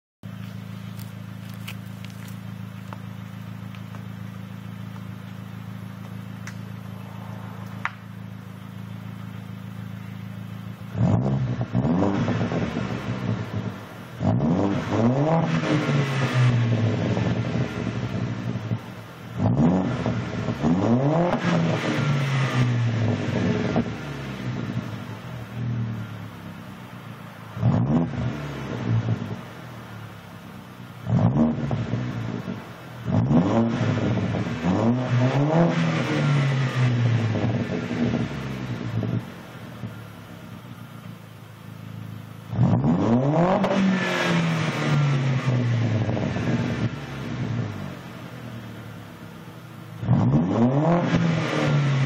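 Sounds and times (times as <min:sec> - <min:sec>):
car engine idling and revving: 0:00.2 - 0:52.0.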